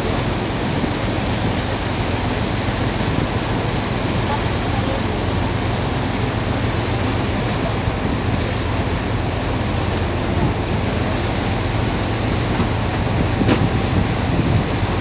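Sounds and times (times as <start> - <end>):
boat engine humming: 0.0 - 15.0
wind and water rushing: 0.0 - 15.0.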